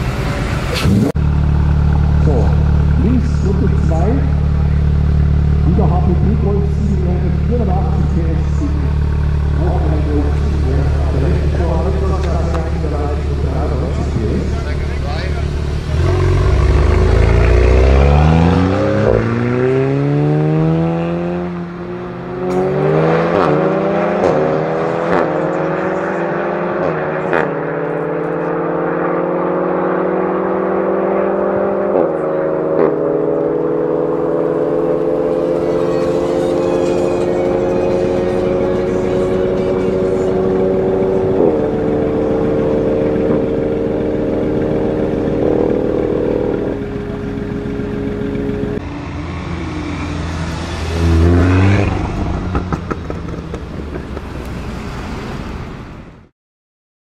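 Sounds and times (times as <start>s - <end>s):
car engine accelerating: 0.0s - 56.3s.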